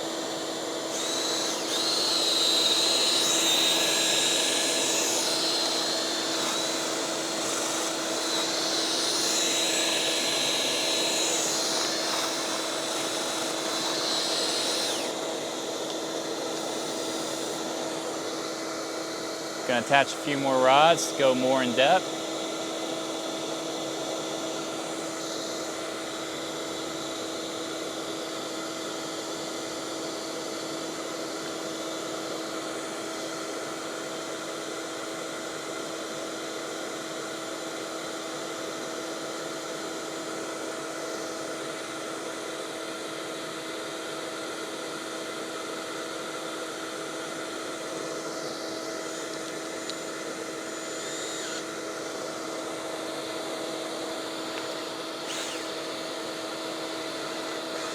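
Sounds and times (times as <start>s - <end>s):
shop vacuum running: 0.0s - 32.0s, 39.6s - 57.9s.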